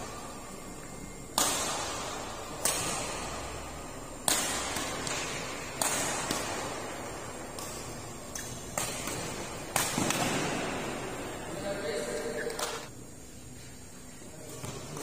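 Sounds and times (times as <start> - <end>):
rackets striking shuttlecock: 0.0 - 12.9.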